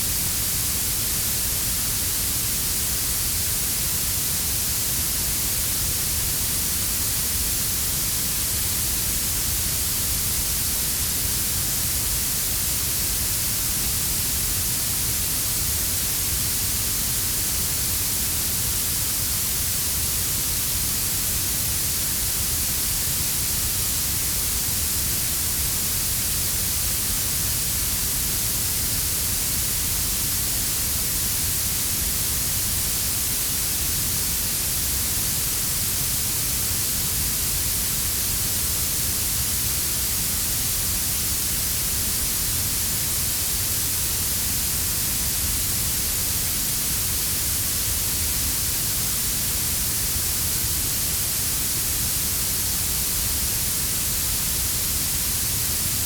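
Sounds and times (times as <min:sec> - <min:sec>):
blue noise hiss: 0:00.0 - 0:56.0.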